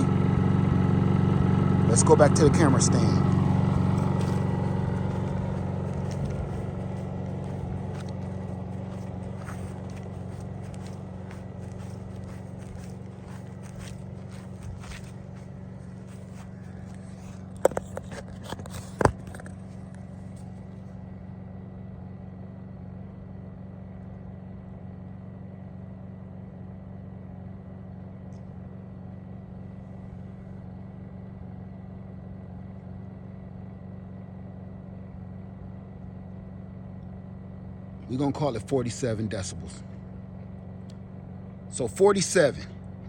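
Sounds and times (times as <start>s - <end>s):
generator humming: 0.0s - 43.0s.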